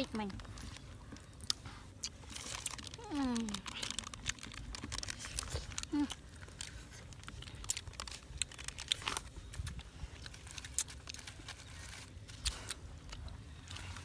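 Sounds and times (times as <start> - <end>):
foil packet crinkling: 0.0 - 14.0.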